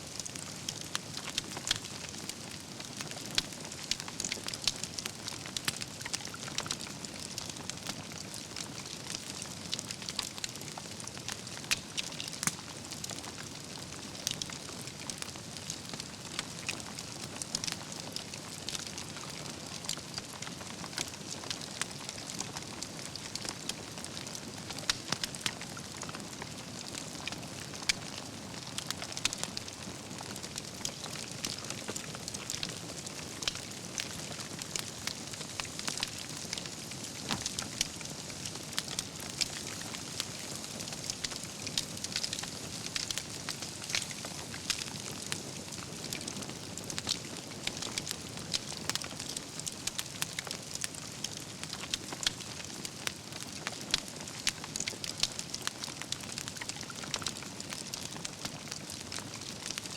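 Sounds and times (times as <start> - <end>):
fire crackling and popping: 0.0 - 59.9
campfire hissing: 0.1 - 59.8.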